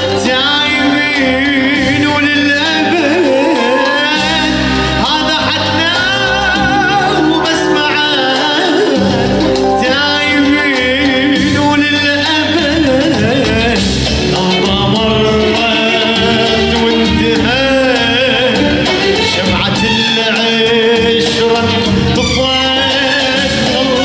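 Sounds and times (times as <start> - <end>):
electronic keyboard accompaniment: 0.0 - 24.0
man singing ornamented line: 0.0 - 24.0.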